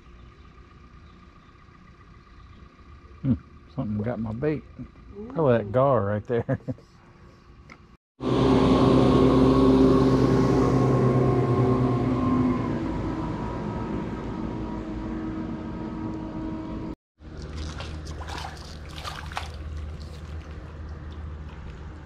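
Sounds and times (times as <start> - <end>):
motorboat engine passing: 0.0 - 6.2, 8.2 - 22.0
low hum: 0.0 - 22.0.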